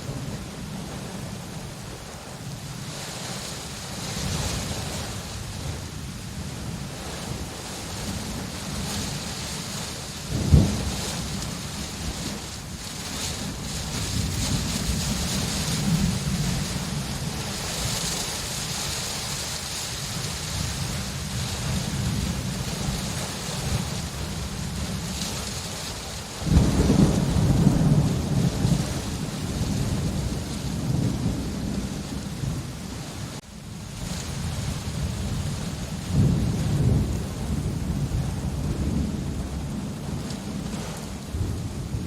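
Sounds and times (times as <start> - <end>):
steady rain: 0.0 - 42.0
rolling thunder: 4.0 - 42.0.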